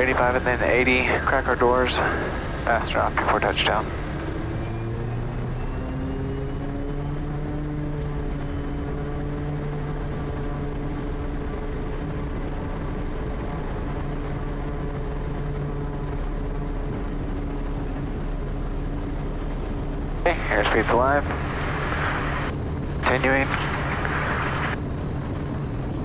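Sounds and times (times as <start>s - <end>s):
turboprop engine droning: 0.0s - 26.0s.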